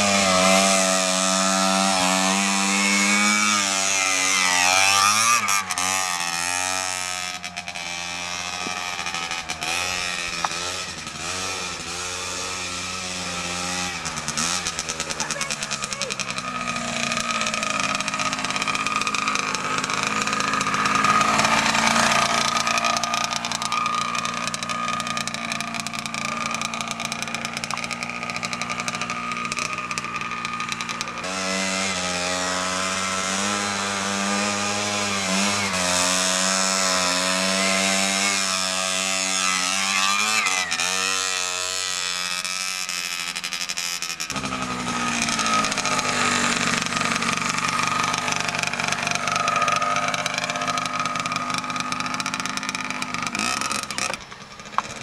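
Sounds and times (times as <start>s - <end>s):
two-stroke motorcycle engine revving: 0.0s - 55.0s.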